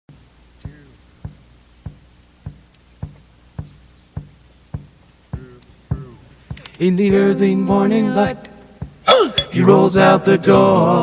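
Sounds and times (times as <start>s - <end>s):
drum beat with low notes: 0.1s - 10.2s.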